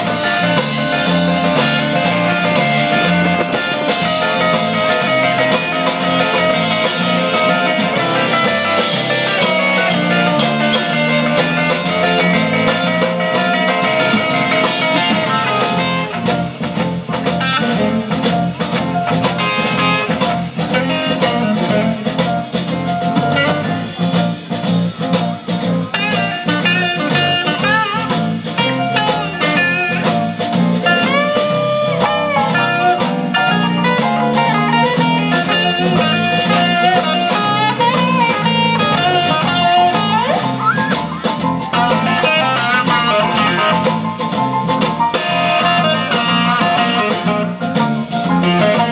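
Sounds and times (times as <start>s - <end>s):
bass guitar: 0.0s - 48.9s
drum kit: 0.0s - 48.9s
electric guitar: 0.0s - 48.9s
keyboard: 0.0s - 48.9s.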